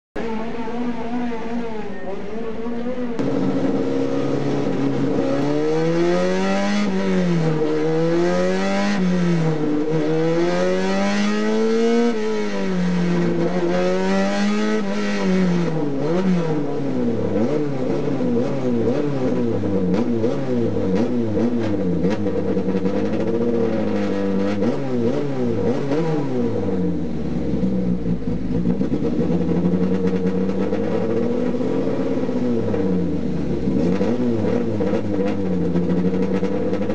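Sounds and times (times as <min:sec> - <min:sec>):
race car engine revving: 0:00.2 - 0:36.9.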